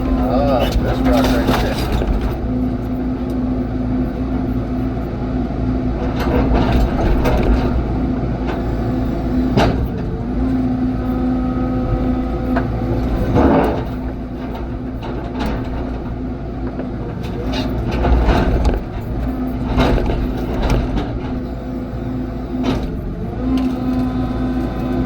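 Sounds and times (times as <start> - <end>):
heavy equipment engine running: 0.0 - 25.0.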